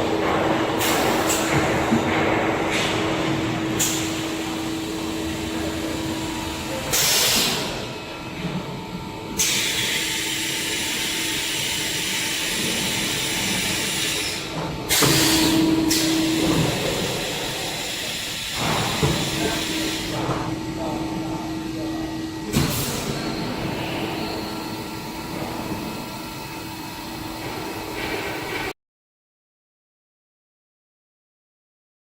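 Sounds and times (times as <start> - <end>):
steady machine hum: 0.0 - 28.8.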